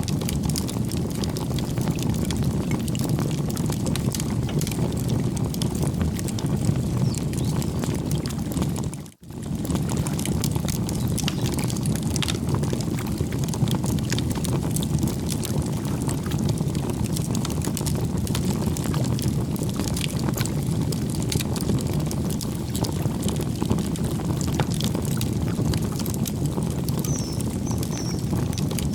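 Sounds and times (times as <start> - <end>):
flames rushing: 0.0 - 28.9
wood crackling and popping: 0.0 - 28.9.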